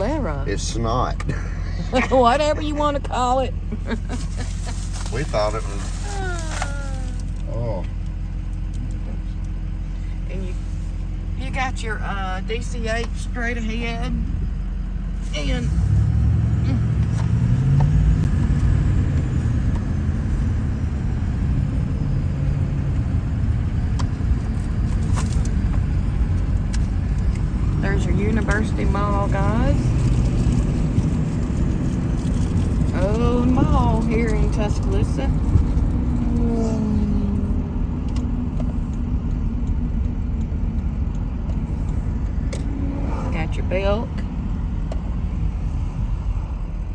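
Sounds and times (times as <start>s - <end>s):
car driving road and engine rumble: 0.0s - 46.9s.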